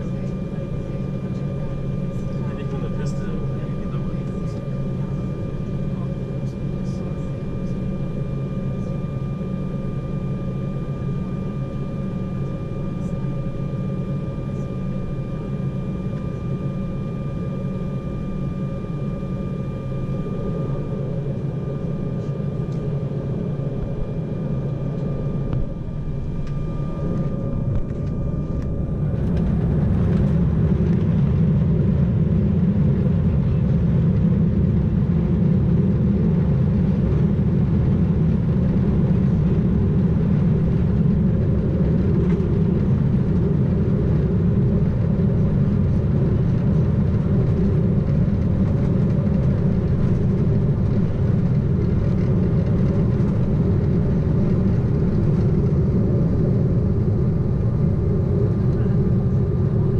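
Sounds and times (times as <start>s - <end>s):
aircraft takeoff rumble: 0.0s - 59.9s
jet engines humming and whining: 0.0s - 59.9s.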